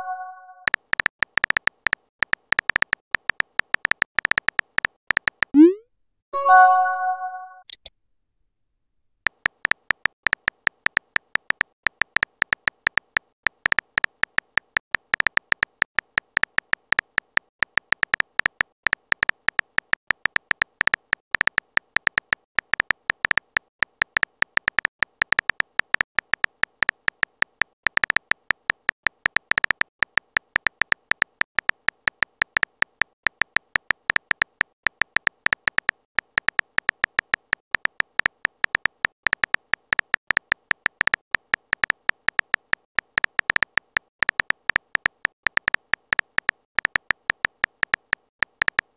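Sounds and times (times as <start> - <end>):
electronic keyboard typing ticks: 0.0 - 5.8, 9.3 - 48.9.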